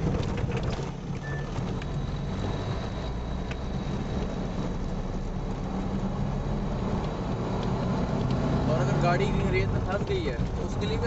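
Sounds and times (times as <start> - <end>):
car engine rumble: 0.0 - 11.0
tyres on dirt road: 0.0 - 11.0.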